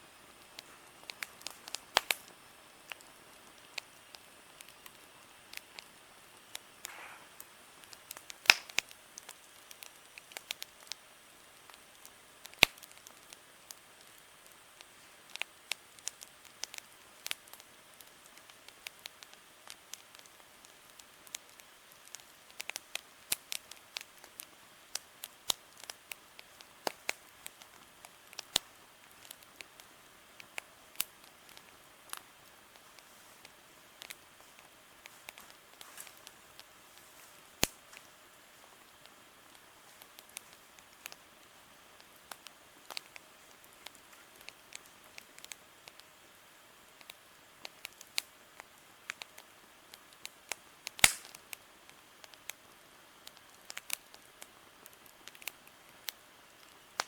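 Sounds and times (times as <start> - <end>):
campfire crackling and popping: 0.0 - 57.0
faint steady hiss: 0.0 - 57.0.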